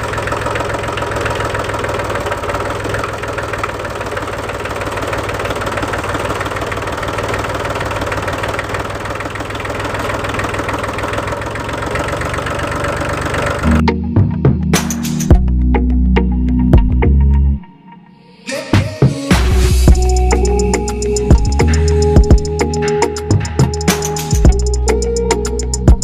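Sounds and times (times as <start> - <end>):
diesel tractor engine running: 0.0 - 16.7, 19.8 - 26.0.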